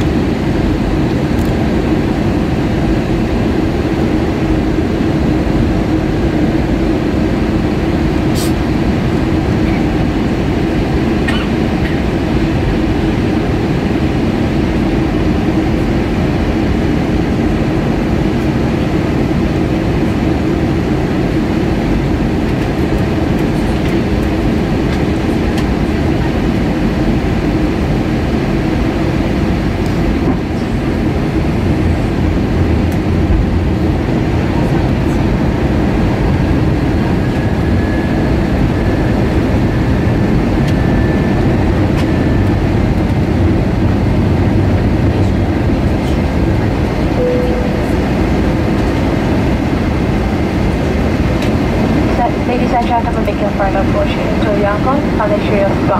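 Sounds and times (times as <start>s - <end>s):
airliner cabin drone: 0.0s - 55.9s.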